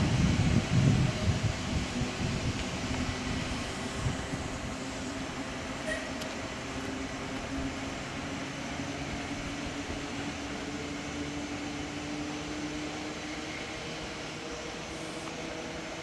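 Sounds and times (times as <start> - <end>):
tram running on track: 0.0 - 16.0.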